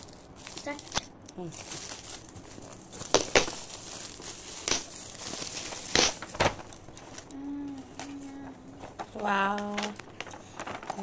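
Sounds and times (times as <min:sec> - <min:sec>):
gift wrapping crinkling: 0:00.0 - 0:11.0.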